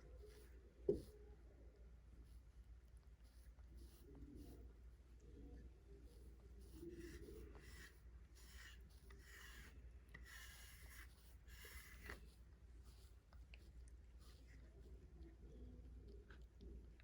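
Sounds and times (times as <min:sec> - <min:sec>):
brush strokes through cat fur: 0:00.0 - 0:15.8.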